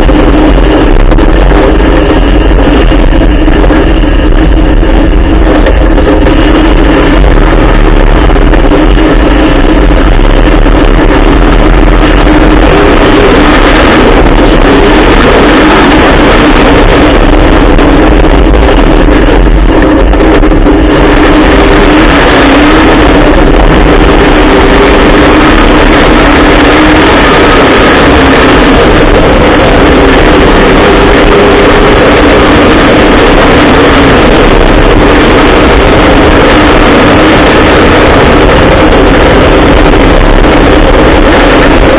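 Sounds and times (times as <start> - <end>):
truck engine running loud: 0.0 - 41.9.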